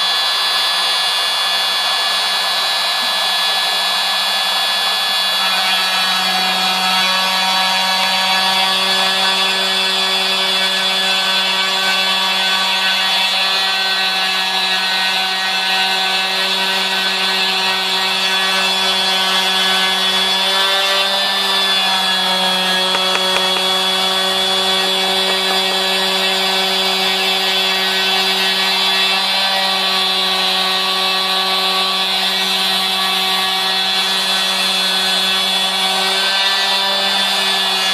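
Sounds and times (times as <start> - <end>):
end mill cutting wood: 0.0 - 37.9
router spindle whining: 0.0 - 37.9.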